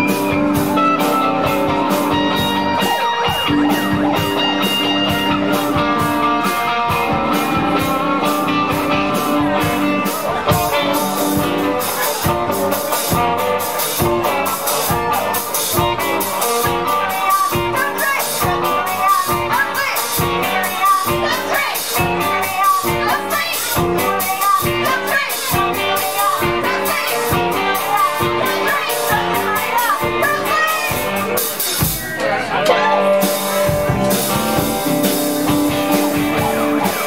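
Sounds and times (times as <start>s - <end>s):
bass guitar: 0.0s - 37.0s
drum beat: 0.0s - 37.0s
electric guitars: 0.0s - 37.0s.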